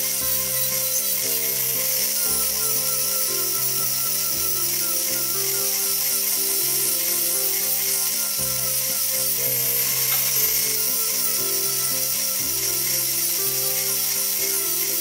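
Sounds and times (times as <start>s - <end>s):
background music: 0.0s - 15.0s
rotary tool sanding wood: 0.0s - 15.0s.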